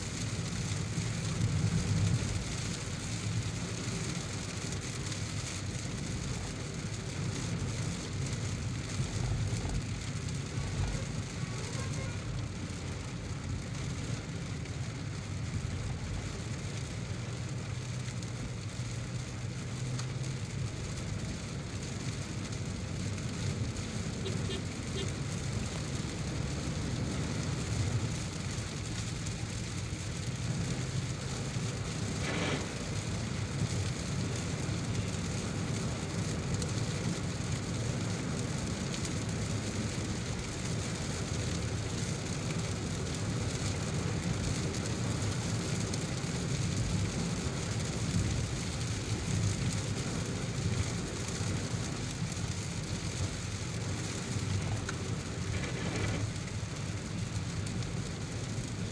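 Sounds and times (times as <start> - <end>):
rain hissing: 0.0 - 58.9
tyres and engine on wet road: 0.0 - 58.9.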